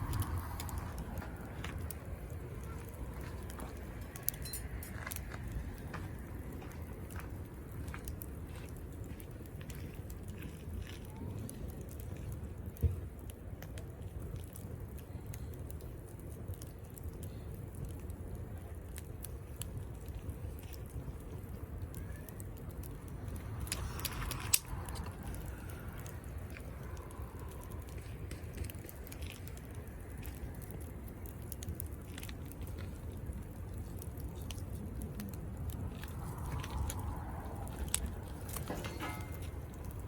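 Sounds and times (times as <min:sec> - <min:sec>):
campfire crackling: 0:00.0 - 0:40.0
fire popping: 0:00.0 - 0:40.0
low steady rumble: 0:00.0 - 0:40.0.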